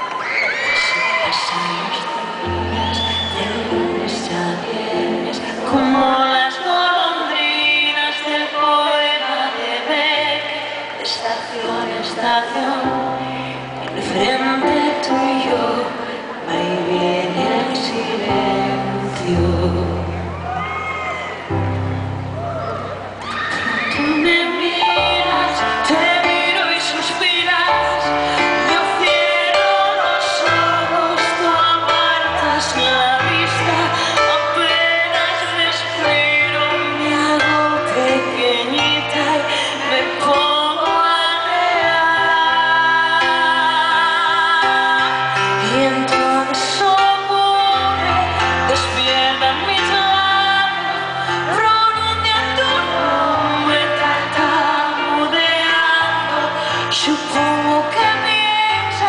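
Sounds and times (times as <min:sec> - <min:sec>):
woman singing into a microphone: 0:00.0 - 0:21.8, 0:23.4 - 0:59.0
keyboard: 0:00.0 - 0:59.0.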